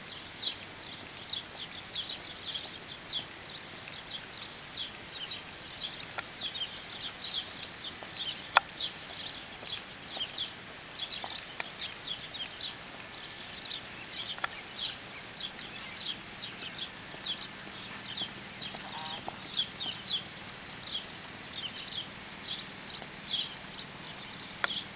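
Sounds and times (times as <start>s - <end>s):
sharp clicks: 0.4s - 23.5s, 24.1s - 24.9s.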